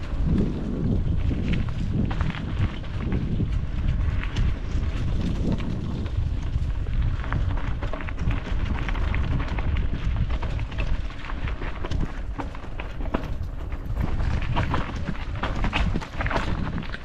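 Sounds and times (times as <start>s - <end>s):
bike rattling over rough trail: 0.0s - 17.0s
wind rumbling on microphone: 0.0s - 17.0s.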